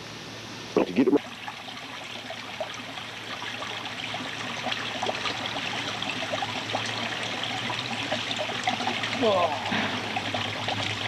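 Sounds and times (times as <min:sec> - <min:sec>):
stream running over stones: 0:01.2 - 0:11.0.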